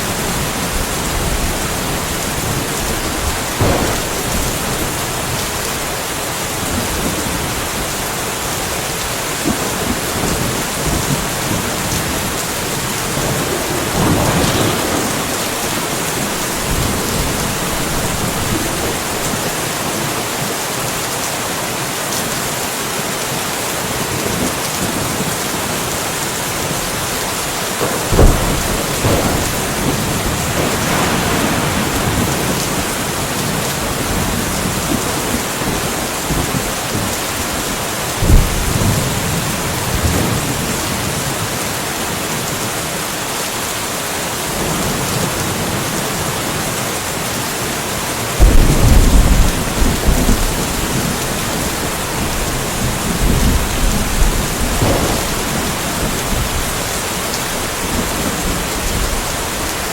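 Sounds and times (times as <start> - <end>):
thunder crackling and rumbling: 0.0 - 20.6, 24.0 - 42.8, 44.4 - 59.9
steady rain: 0.0 - 59.9.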